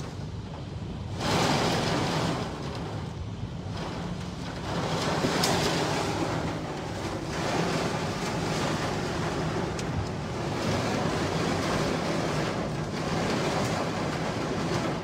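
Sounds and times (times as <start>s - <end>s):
heavy rain on car windshield: 0.0s - 15.0s
tyres hissing on wet road: 0.0s - 15.0s.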